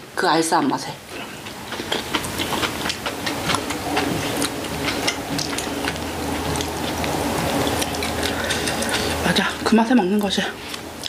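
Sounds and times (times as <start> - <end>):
people chewing: 1.1 - 11.0.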